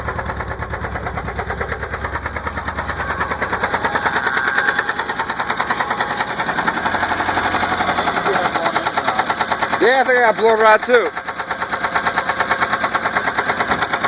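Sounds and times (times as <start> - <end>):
car engine knocking: 0.0 - 14.0.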